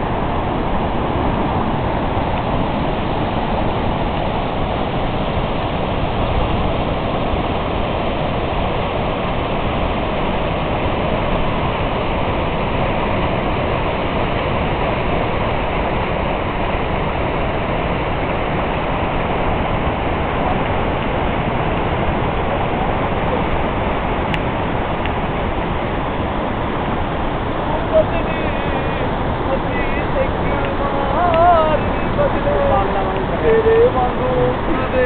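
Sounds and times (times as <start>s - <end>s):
river rushing over rapids: 0.0s - 35.0s.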